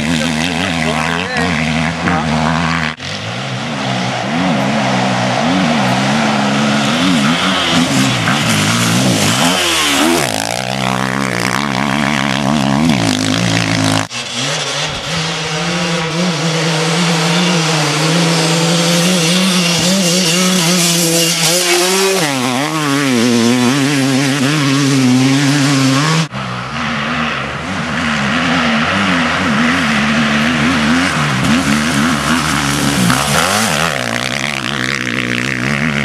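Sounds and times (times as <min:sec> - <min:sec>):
dirt bike running steadily: 0:00.0 - 0:04.8, 0:05.4 - 0:36.0
dirt bike engines revving: 0:00.0 - 0:36.0.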